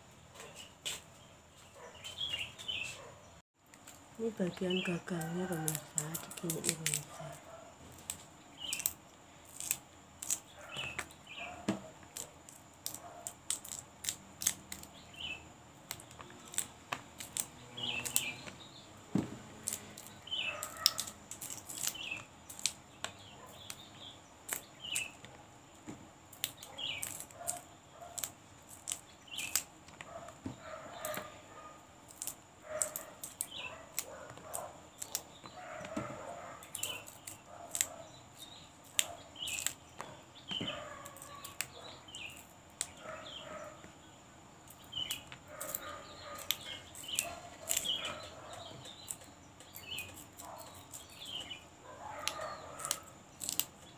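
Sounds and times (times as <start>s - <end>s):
birds chirping: 0.0s - 53.9s
vegetable stems snapping by hand: 4.8s - 15.0s, 15.8s - 23.8s, 24.4s - 25.4s, 26.3s - 31.3s, 32.1s - 38.0s, 38.8s - 43.0s, 44.7s - 53.8s.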